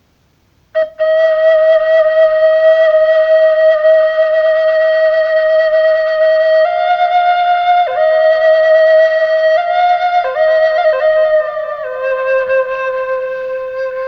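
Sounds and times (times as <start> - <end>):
flute melody: 0.8 - 14.0.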